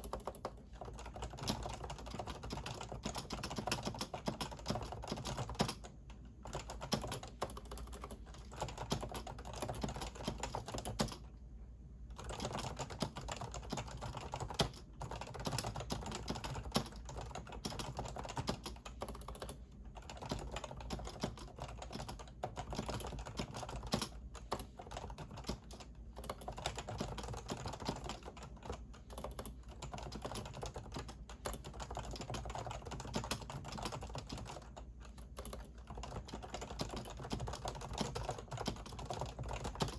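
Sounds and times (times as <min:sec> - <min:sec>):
typing on a keyboard: 0:00.0 - 0:11.2, 0:12.1 - 0:39.9.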